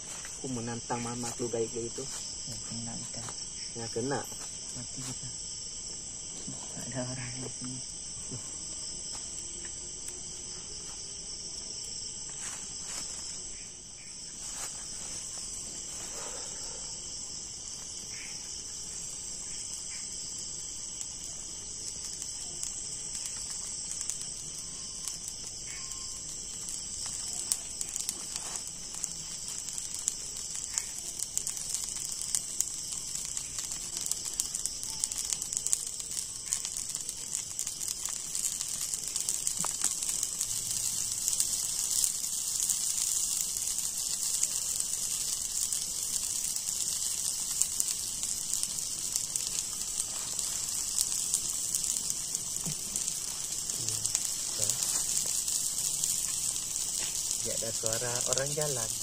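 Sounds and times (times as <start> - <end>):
night insects chorus: 0.0 - 59.0
wood fire crackling and popping: 0.0 - 59.0.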